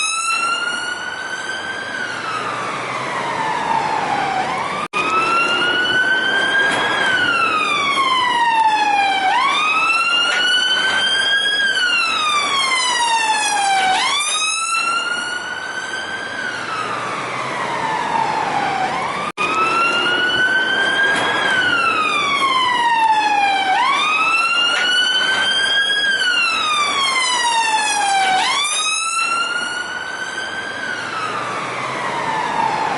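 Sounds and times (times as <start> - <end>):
police car siren wailing: 0.0 - 32.9.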